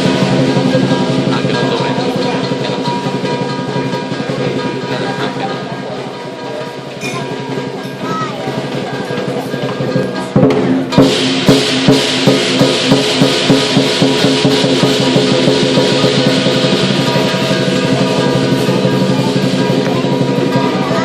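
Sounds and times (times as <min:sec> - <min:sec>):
cymbals clashing: 0:00.0 - 0:21.0
drum beating steady pulse: 0:00.0 - 0:21.0
gong ringing: 0:00.0 - 0:21.0.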